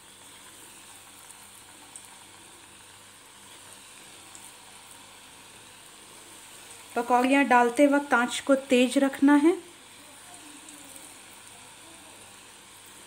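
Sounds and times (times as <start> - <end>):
batter balls deep-frying in oil: 0.0 - 13.0.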